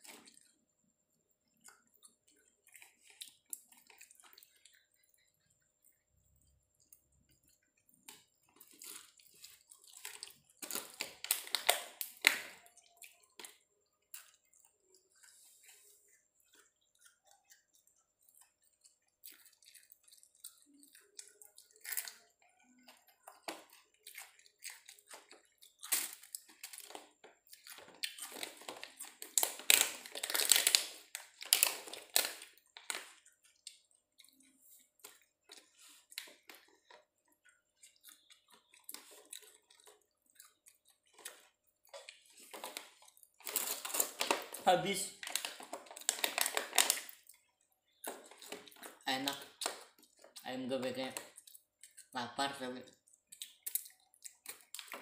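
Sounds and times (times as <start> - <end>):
person chewing: 0.0 - 52.2, 52.8 - 55.0.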